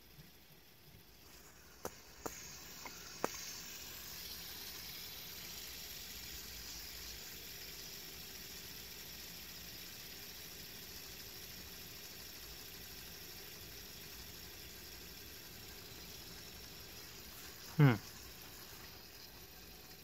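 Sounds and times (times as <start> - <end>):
fidget spinner clicks: 0.0 - 20.0
fidget spinner whirring: 0.0 - 20.0.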